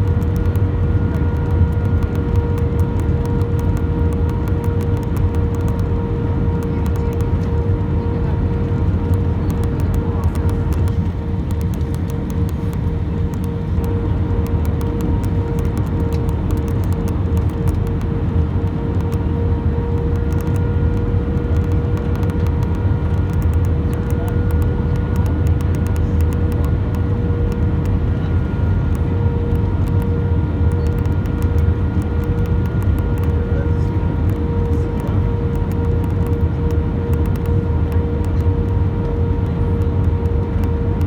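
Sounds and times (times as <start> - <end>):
airliner cabin engine rumble: 0.0 - 41.0
steady hum: 0.0 - 41.0.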